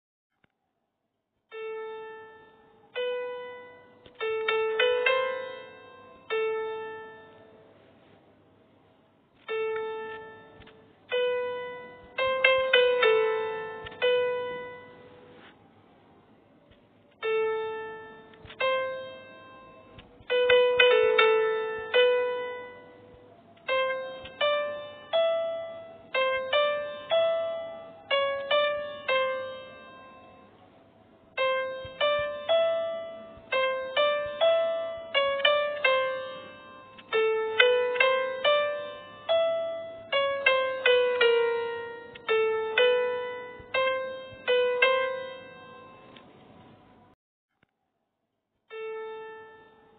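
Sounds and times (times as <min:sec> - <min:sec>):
slow solo instrumental melody: 0:01.5 - 0:08.1, 0:09.4 - 0:15.5, 0:17.1 - 0:47.2, 0:48.7 - 0:49.9.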